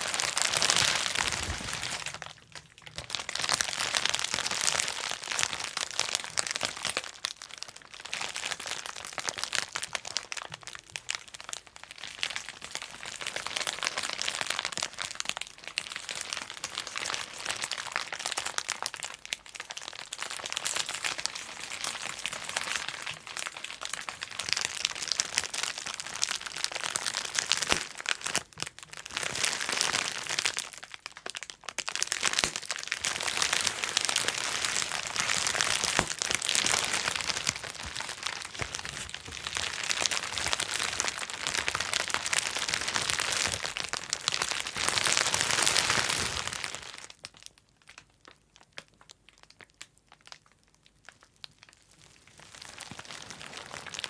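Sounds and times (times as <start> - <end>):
plastic crinkling: 0.0 - 50.4, 51.0 - 54.0
bubble wrap popping: 0.0 - 54.0.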